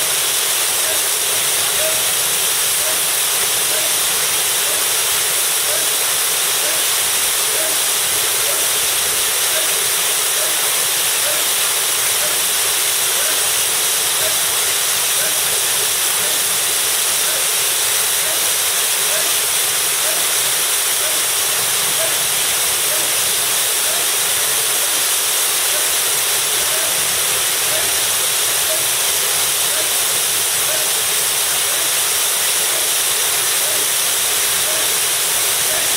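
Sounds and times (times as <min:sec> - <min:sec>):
waterfall pouring: 0:00.0 - 0:35.9.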